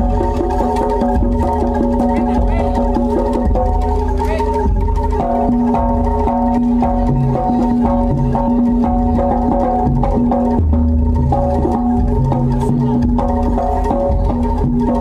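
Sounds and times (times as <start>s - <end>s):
drums beating: 0.0s - 15.0s
tuned metal percussion: 0.0s - 15.0s.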